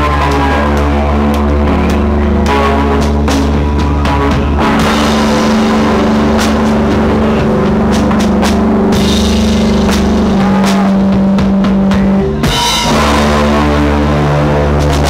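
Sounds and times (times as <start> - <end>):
distorted guitar chords: 0.0 - 15.0
drums and cymbal crashes: 0.0 - 15.0.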